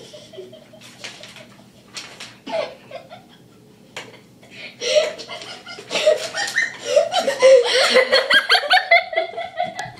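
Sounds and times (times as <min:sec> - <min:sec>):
people laughing and giggling: 0:00.0 - 0:03.6, 0:04.9 - 0:09.9.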